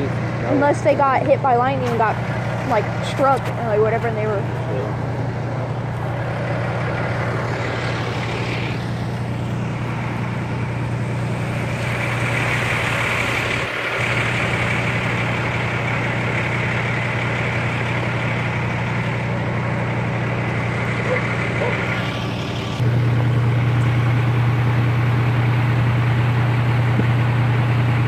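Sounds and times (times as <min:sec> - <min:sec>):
fire engines idling: 0:00.0 - 0:28.0.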